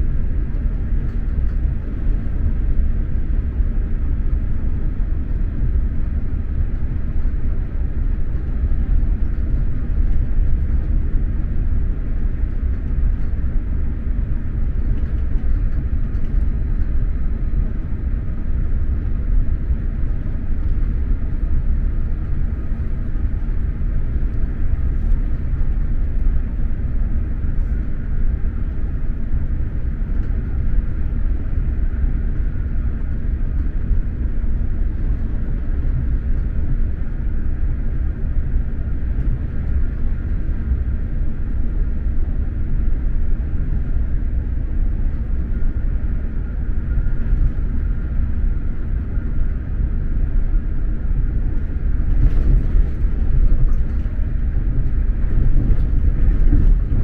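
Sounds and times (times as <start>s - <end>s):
train rumble from inside carriage: 0.0s - 57.0s.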